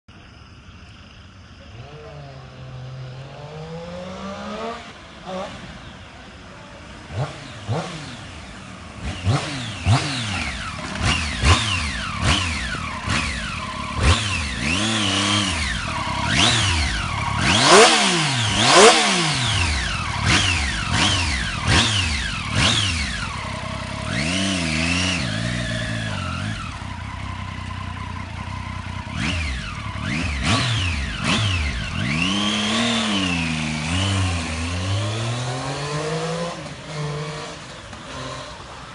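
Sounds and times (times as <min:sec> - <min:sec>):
motorcycle engine revving: 0:00.1 - 0:38.9.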